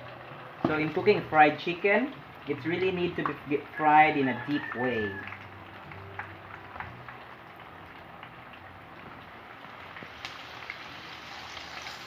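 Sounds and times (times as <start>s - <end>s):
chicken deep-frying in oil: 0.0s - 12.0s
oil popping and crackling: 0.0s - 12.0s.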